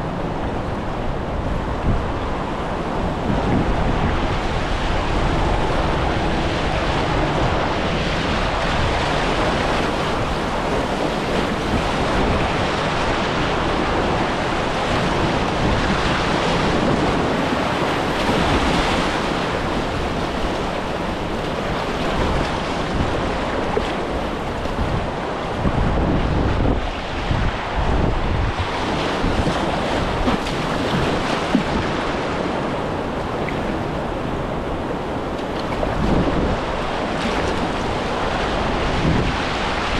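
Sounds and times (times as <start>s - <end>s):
river water rushing: 0.0s - 39.9s
wind buffeting microphone: 0.0s - 39.9s.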